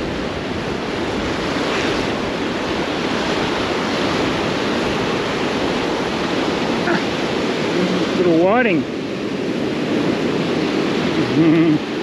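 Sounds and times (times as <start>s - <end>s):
surf breaking: 0.0s - 11.9s
wind buffeting microphone: 0.0s - 12.0s.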